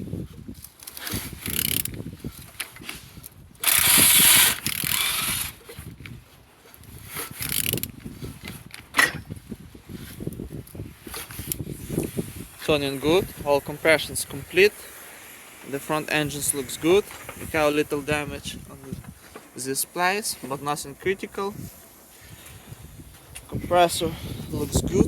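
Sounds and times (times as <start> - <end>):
engine clicks and scraping: 0.6 - 6.0, 6.7 - 9.3, 11.0 - 25.0.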